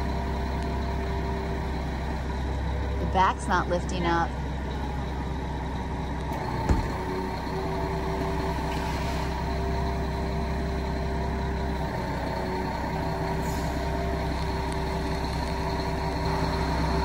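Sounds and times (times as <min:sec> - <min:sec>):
truck engine drone: 0:00.0 - 0:17.0.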